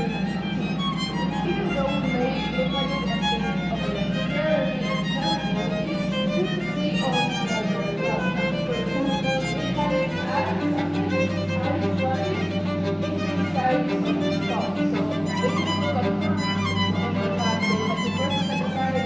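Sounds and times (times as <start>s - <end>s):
violin melody: 0.0s - 19.0s.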